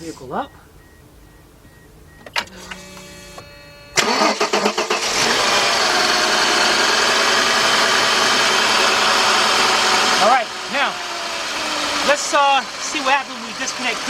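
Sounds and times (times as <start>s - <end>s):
car engine cranking and idling: 0.0s - 14.0s
starter whine: 0.6s - 14.0s.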